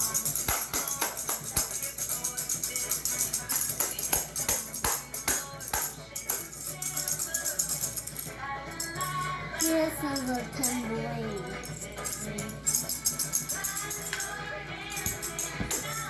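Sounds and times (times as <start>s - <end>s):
recorded song: 0.0s - 16.0s
tambourine shaken: 0.0s - 16.0s.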